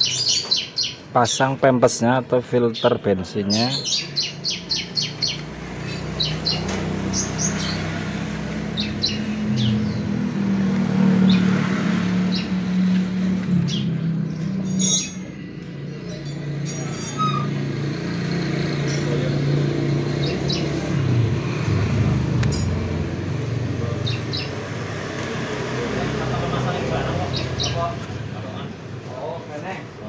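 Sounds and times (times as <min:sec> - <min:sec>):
steady engine hum: 0:00.0 - 0:30.0.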